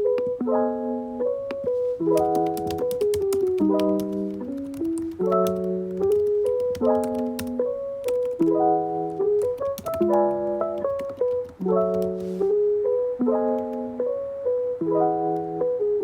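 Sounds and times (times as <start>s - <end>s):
soft electric piano chords: 0.0s - 16.0s.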